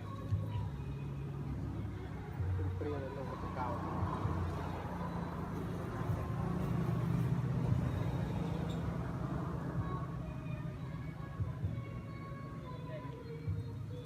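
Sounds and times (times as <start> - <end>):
motor vehicle rumbling: 0.0 - 14.0.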